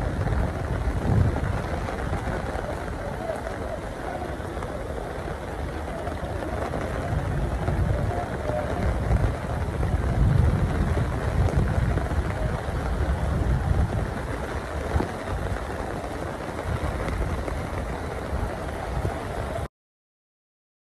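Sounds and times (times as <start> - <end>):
rain falling: 0.0 - 19.7
wind buffeting microphone: 0.0 - 19.7.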